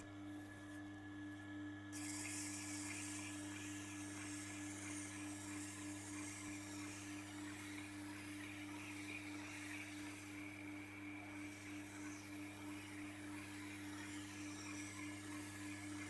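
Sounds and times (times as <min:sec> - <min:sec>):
blade hissing on grinding wheel: 0:02.0 - 0:16.0
sharpening machine motor humming: 0:02.0 - 0:16.0.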